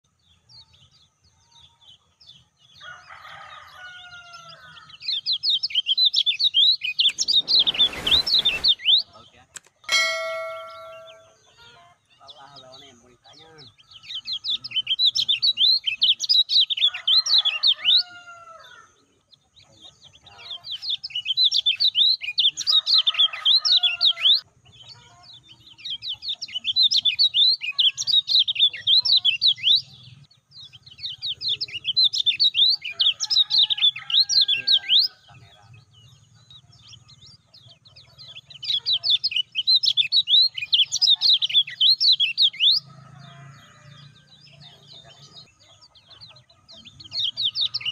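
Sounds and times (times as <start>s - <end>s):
bird singing rapid high chirps: 4.2s - 18.4s, 19.3s - 47.9s.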